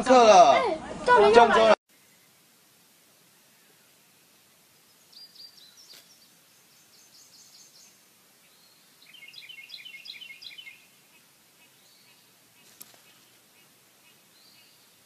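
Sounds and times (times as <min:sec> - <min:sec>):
birds chirping: 0:01.0 - 0:15.0.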